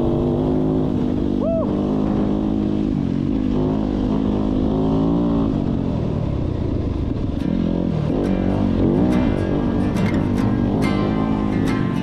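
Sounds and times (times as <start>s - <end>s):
off-road motorcycle engine revving: 0.0s - 12.0s.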